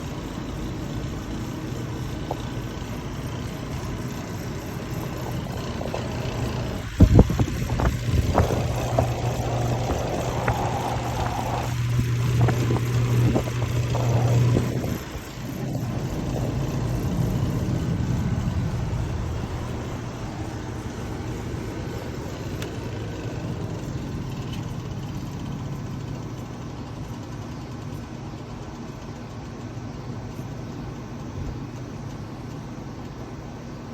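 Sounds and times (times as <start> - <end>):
fan motor humming: 0.0 - 33.9.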